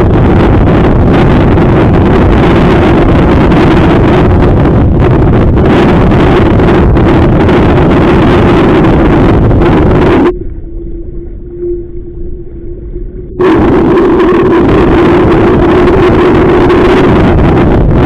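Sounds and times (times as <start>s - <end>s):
steady low hum: 0.0s - 18.0s
wind buffeting microphone: 0.0s - 18.0s.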